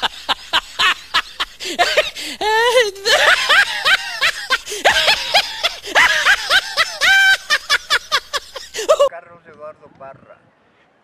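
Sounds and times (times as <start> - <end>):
person laughing heartily: 0.0 - 9.1.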